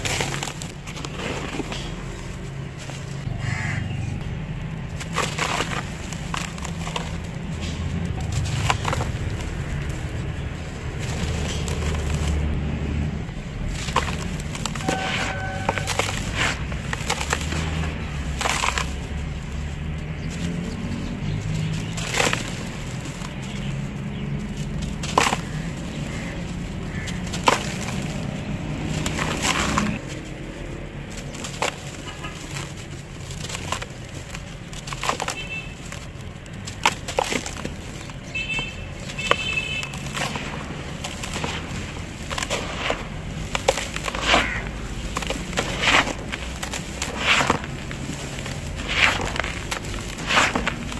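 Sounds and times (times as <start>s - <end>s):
cement chunks cracking: 0.0s - 3.3s, 4.2s - 50.9s
hands crunching dry cement: 0.0s - 3.3s, 4.2s - 50.9s.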